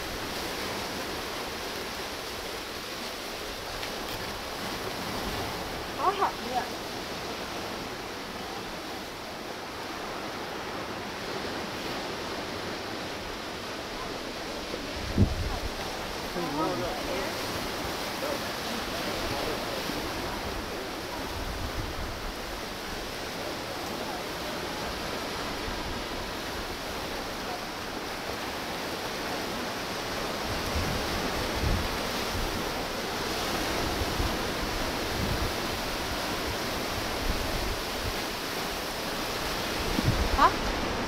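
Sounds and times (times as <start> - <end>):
surf breaking on rocks: 0.0 - 41.0
wind: 0.0 - 41.0
wind gusts buffeting microphone: 0.0 - 41.0.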